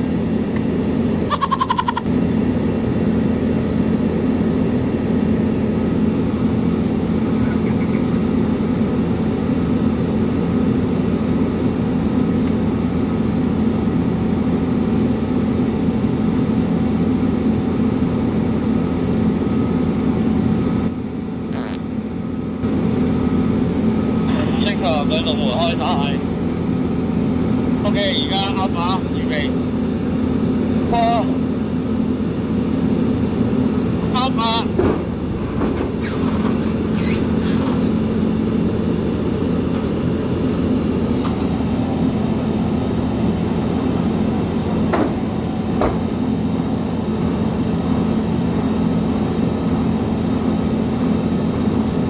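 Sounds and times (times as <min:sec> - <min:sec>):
loud machinery drone: 0:00.0 - 0:52.0.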